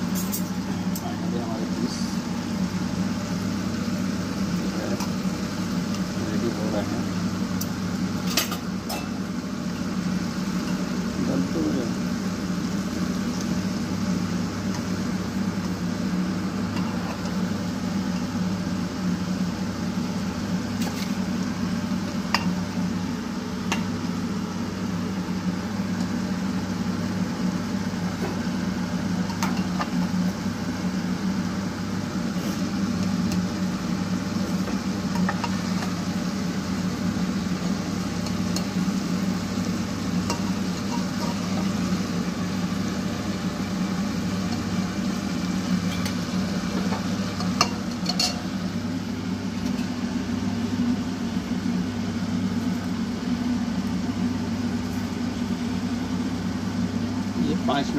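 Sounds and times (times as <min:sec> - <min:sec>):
chicken sizzling in oil: 0:00.0 - 0:57.9.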